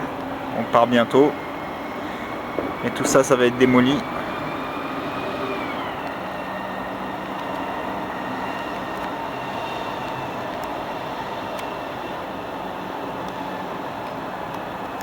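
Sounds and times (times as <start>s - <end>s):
vehicle noise with high whine: 0.0s - 15.0s.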